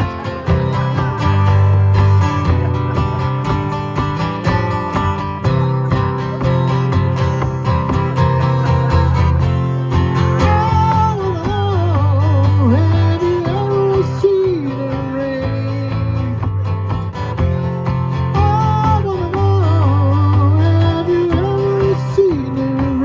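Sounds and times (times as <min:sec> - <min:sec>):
acoustic guitar strumming: 0:00.0 - 0:23.0
wavering slide guitar melody: 0:00.0 - 0:23.0.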